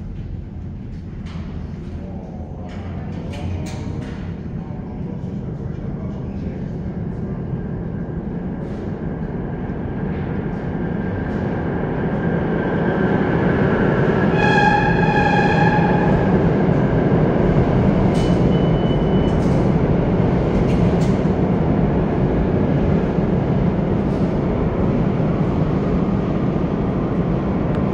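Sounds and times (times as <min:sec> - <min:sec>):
subway train rumble: 0:00.0 - 0:27.9.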